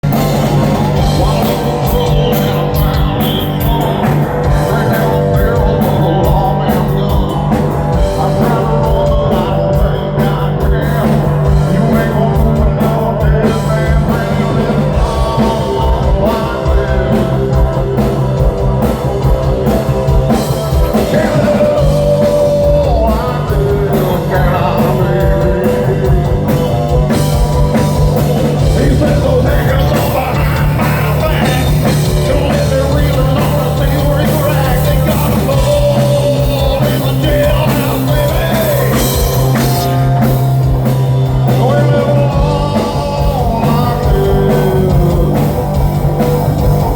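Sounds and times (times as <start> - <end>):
person singing: 0.0 - 46.9
rock band playing loud: 0.0 - 46.9.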